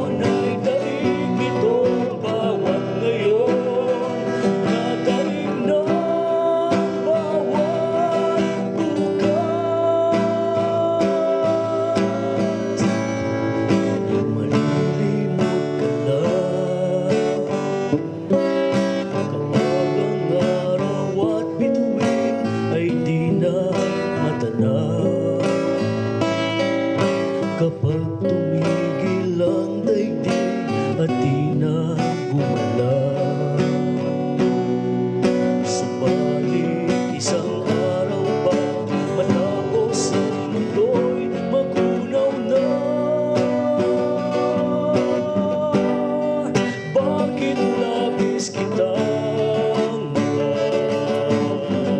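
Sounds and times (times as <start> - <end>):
strummed acoustic guitar music: 0.0 - 51.9.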